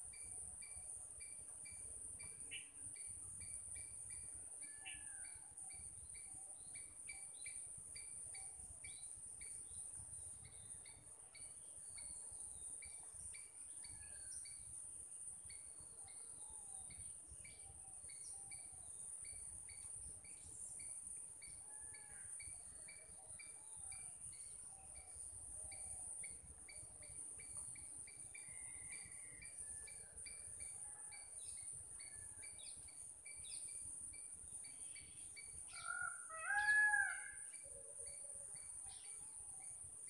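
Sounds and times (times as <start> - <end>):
insect chirps: 0.0 - 40.0.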